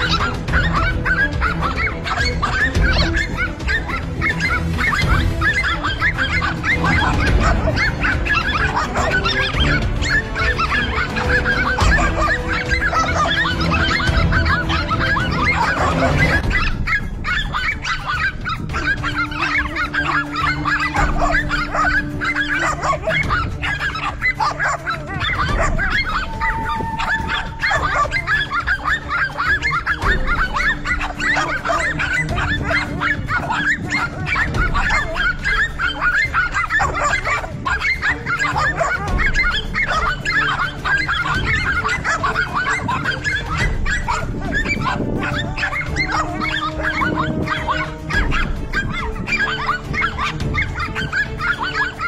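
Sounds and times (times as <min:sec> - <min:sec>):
dogs barking: 0:00.0 - 0:52.0.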